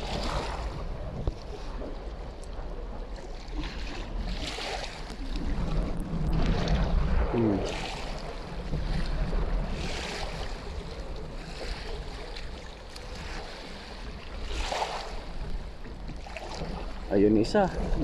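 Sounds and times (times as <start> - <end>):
splashes in shallow water: 0.0 - 1.9, 3.1 - 18.0
choppy lake water: 0.0 - 18.0
wind buffeting microphone: 0.0 - 18.0.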